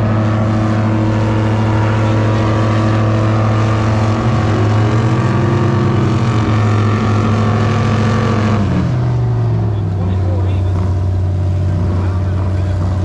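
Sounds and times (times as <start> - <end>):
airboat engine running: 0.0 - 13.0
second engine running: 0.0 - 13.0.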